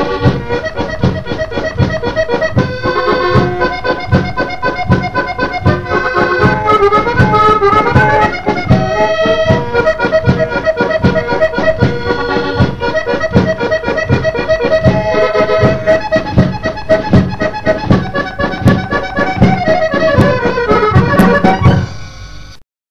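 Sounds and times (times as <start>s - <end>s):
steady drum beat: 0.0s - 22.0s
accordion waltz melody: 0.0s - 22.6s.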